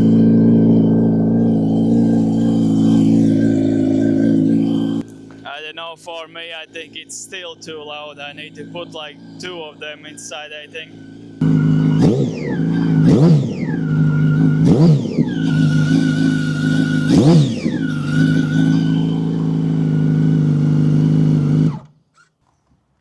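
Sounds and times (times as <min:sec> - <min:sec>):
motorcycle engine idling and revving: 0:00.0 - 0:22.1.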